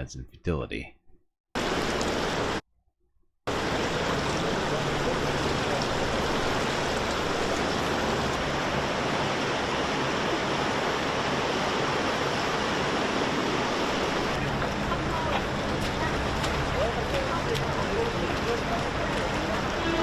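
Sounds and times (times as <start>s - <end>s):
floodwater rushing: 1.6s - 2.6s, 3.5s - 20.0s.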